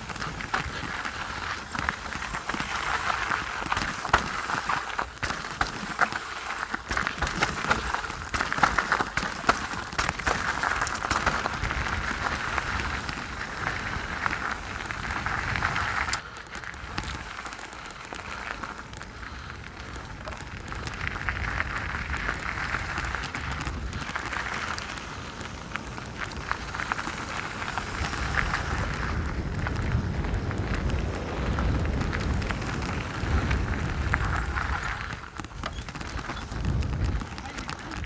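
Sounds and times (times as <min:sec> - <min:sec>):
bike rattling: 0:00.0 - 0:38.0
rumble on camera microphone: 0:00.0 - 0:38.0
tyres crunching over gravel: 0:00.0 - 0:38.0.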